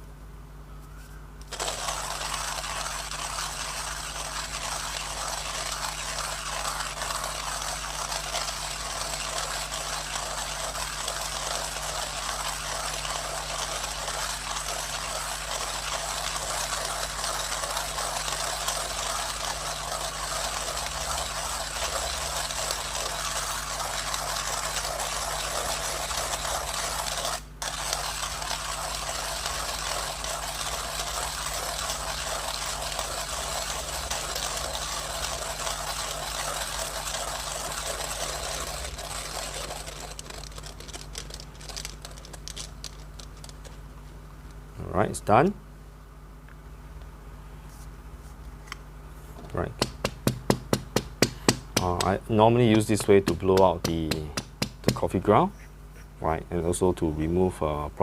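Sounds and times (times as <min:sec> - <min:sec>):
hand coffee grinder grinding: 0:01.4 - 0:43.8, 0:49.8 - 0:55.3.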